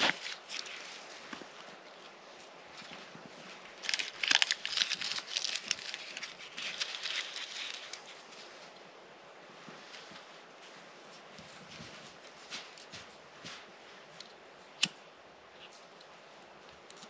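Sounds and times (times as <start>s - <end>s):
tinder crinkling and scraping: 0.0s - 17.0s.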